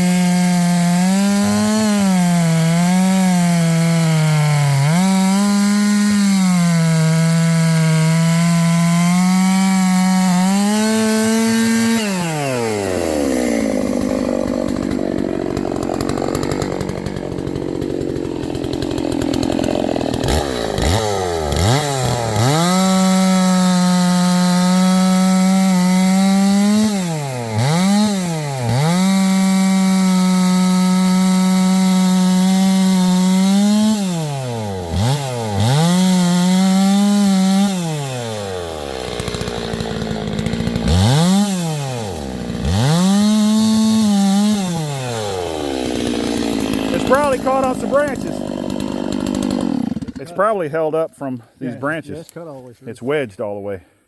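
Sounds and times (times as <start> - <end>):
chainsaw cutting wood: 0.0 - 52.4.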